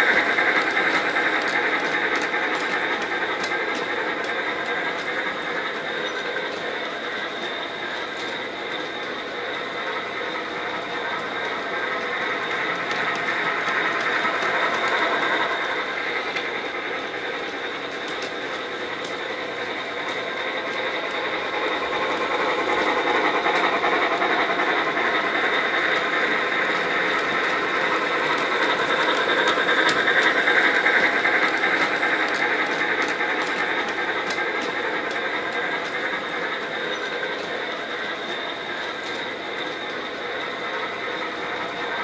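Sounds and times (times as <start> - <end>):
model train motor whirring: 0.0 - 42.0
wheels rolling on rails: 0.0 - 42.0.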